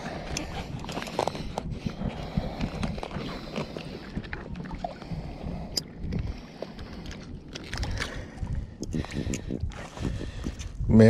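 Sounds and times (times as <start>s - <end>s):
water lapping and sloshing: 0.0s - 11.0s
wind on microphone: 0.0s - 11.0s.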